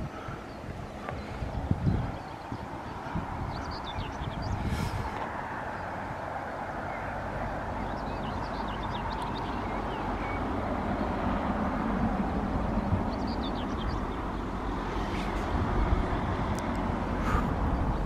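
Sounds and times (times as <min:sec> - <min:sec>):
small birds chirping: 0:00.0 - 0:11.1, 0:12.2 - 0:18.0
road traffic passing: 0:00.0 - 0:18.0.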